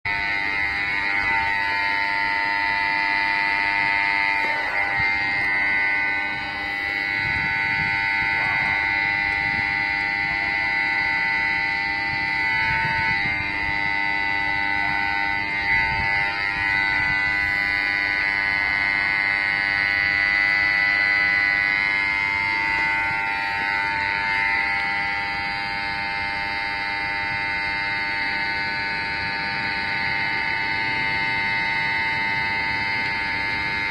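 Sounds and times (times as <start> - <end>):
level crossing buzzer: 0.0 - 33.9.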